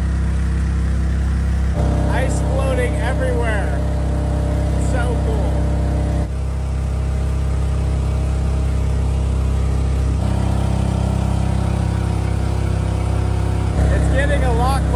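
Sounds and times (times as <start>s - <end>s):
small jet kayak engine running: 0.0s - 14.9s.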